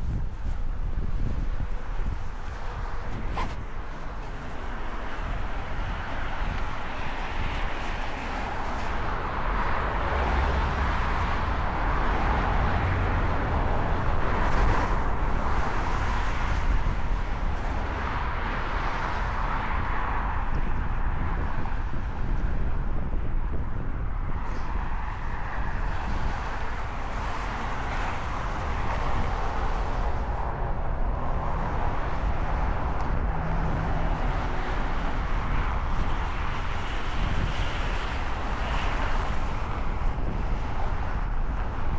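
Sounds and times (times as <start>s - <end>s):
steady outdoor rushing noise: 0.0s - 41.9s
wind buffeting microphone: 0.0s - 41.9s.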